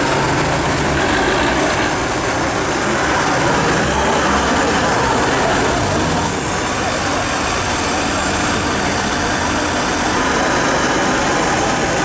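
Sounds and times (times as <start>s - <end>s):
off-road vehicle engines running: 0.0s - 12.0s
people's voices: 0.0s - 12.0s.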